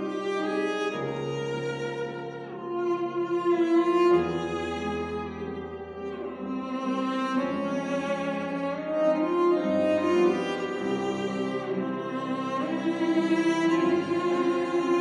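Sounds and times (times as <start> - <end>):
cello bowed notes: 0.0 - 15.0
grand piano: 0.0 - 15.0.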